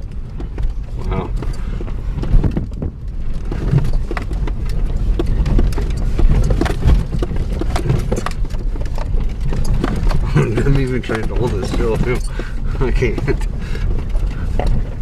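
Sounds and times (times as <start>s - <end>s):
vehicle rumble: 0.0s - 15.0s
jolts knocks and rattles: 0.3s - 15.0s.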